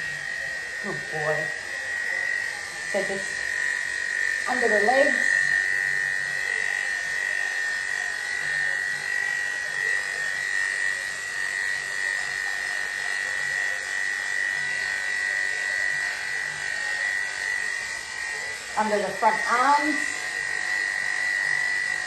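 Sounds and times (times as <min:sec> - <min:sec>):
electric clippers high whine: 0:00.0 - 0:22.0.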